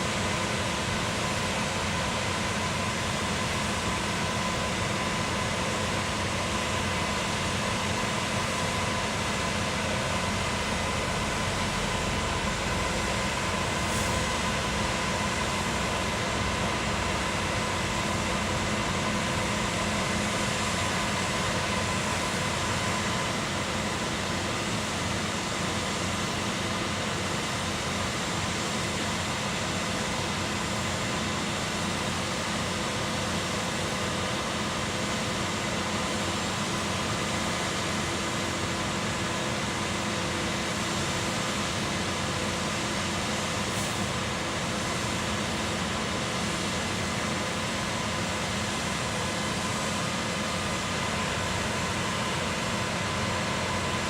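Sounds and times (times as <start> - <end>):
concrete pump running: 0.0 - 54.0.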